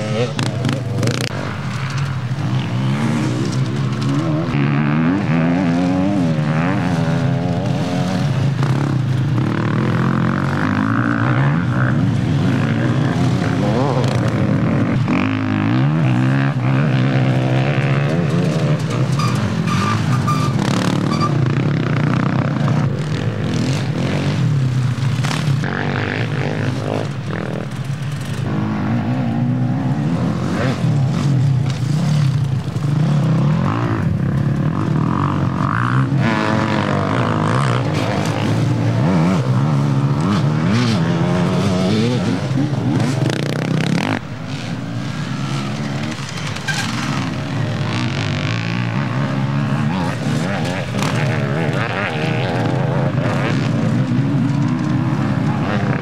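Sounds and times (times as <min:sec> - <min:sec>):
off-road racing engines revving: 0:00.0 - 0:56.0.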